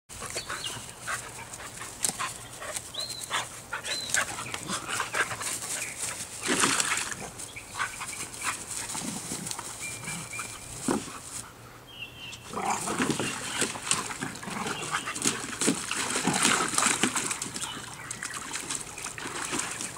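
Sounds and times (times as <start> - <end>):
dogs panting: 0.1 - 11.8, 12.9 - 19.9.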